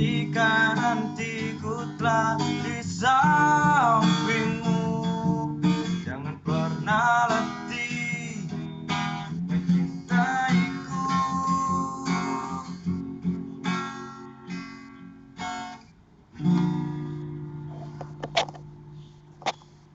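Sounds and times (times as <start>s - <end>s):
acoustic guitar strumming: 0.0s - 19.8s.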